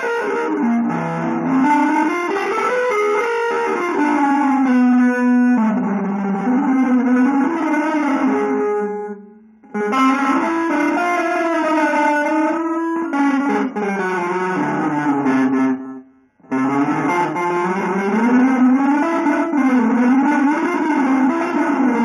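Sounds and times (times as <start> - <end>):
electric guitar sliding notes: 0.0 - 22.0.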